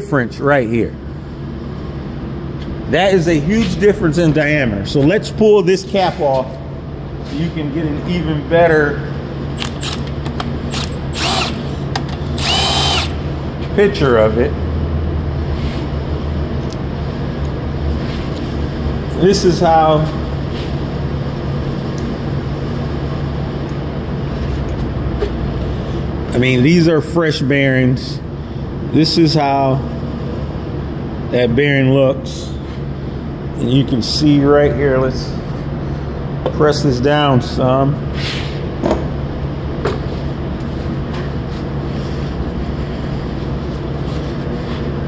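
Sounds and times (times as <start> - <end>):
steady machine hum with hiss: 0.0 - 45.0.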